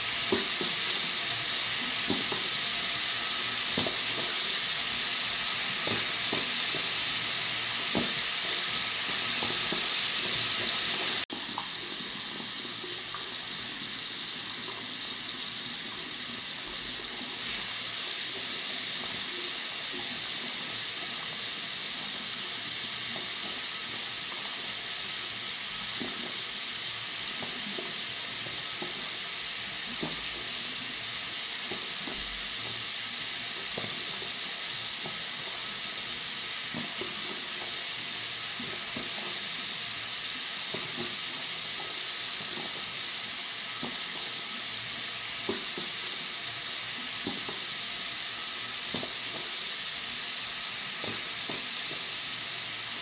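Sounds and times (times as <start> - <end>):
tap water running into sink: 0.0 - 53.0.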